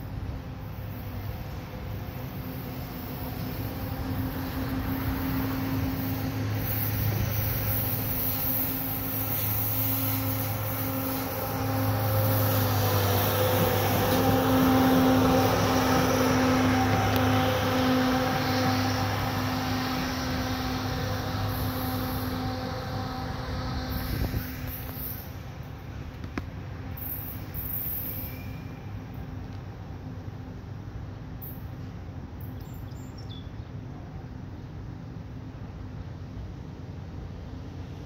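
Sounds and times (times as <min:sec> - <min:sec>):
diesel engine of rail machine: 0:00.0 - 0:38.0.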